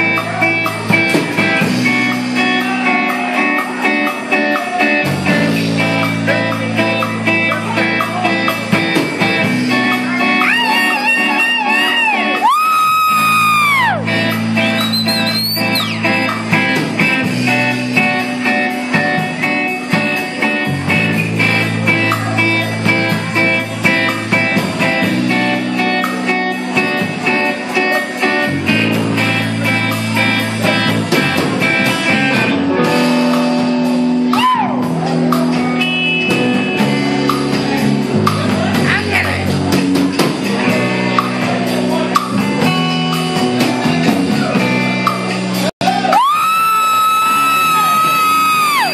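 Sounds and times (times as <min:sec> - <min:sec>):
electric guitar: 0:00.0 - 0:48.9
live rock band playing: 0:00.0 - 0:48.9.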